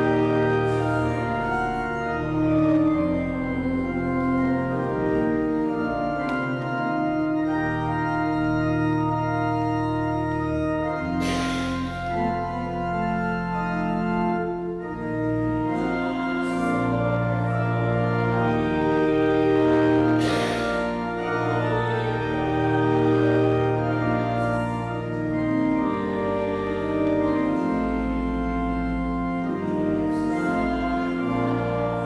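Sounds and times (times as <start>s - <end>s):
church organ playing hymn chords: 0.0s - 32.0s.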